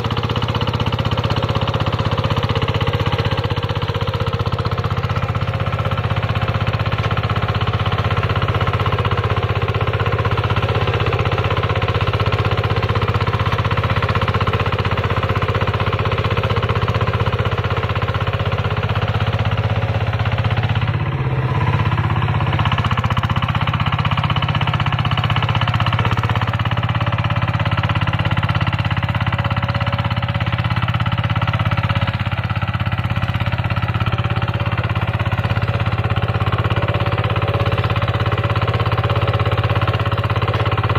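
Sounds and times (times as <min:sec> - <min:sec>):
diesel engine chugging: 0:00.0 - 0:40.9
rotary tiller working soil: 0:00.0 - 0:40.9.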